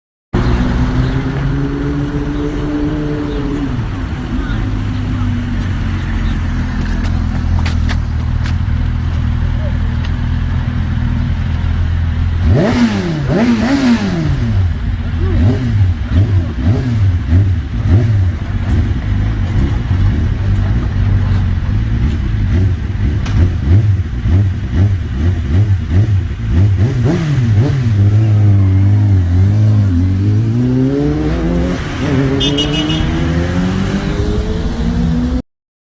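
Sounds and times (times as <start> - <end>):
motorcycle engine revving: 0.4 - 35.4.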